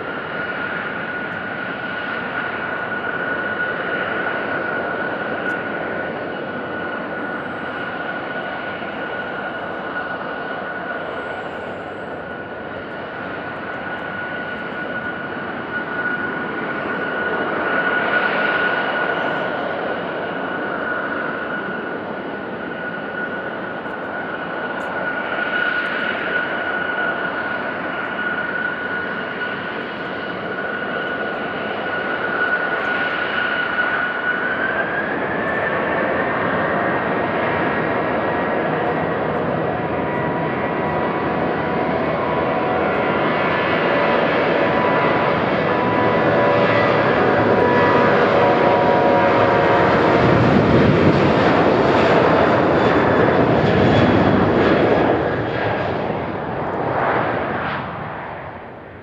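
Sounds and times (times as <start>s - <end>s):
jet engines whining and roaring: 0.0s - 59.0s.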